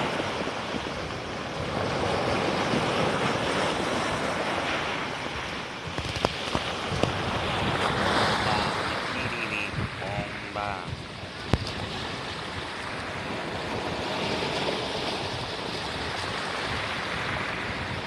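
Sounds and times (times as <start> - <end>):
sea waves washing ashore: 0.0 - 18.0
wind buffeting microphone: 0.0 - 18.0.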